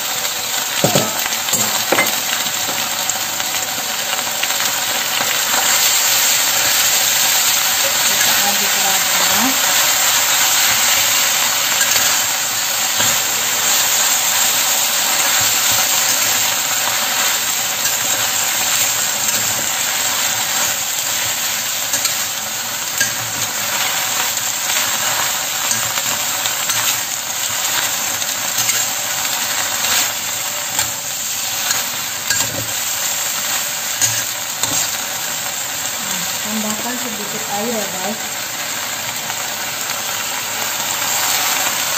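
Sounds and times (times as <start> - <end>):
leaves sizzling in hot oil: 0.0 - 41.9.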